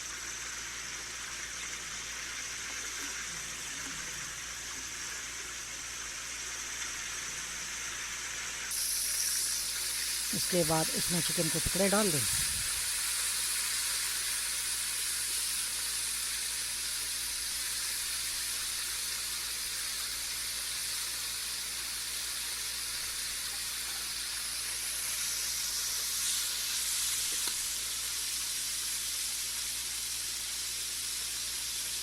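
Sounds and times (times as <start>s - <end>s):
chicken sizzling in hot fat: 0.0s - 32.0s.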